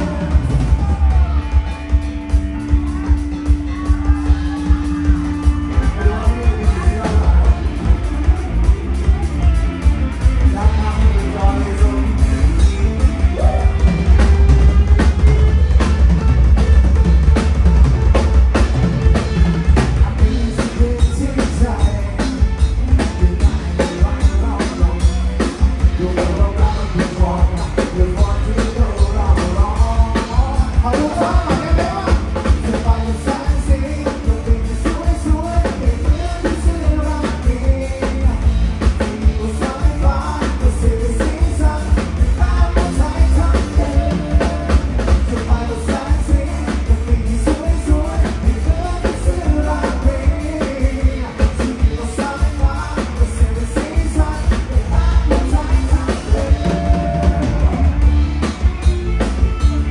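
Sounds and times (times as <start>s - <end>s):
person singing: 0.0s - 15.8s, 19.2s - 59.9s
drum kit beating: 0.0s - 59.9s
heavy bass: 0.0s - 59.9s
live rock band playing: 0.0s - 59.9s.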